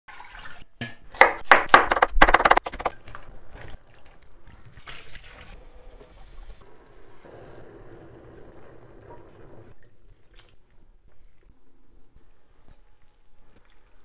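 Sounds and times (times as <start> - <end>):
water splashing in a pot and sink: 0.1 - 1.4, 2.7 - 14.0.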